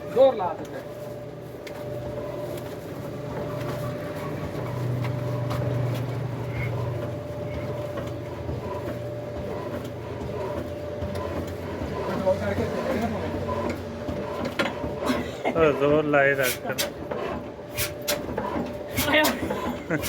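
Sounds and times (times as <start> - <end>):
diesel engine cranked by hand: 1.6 - 20.0.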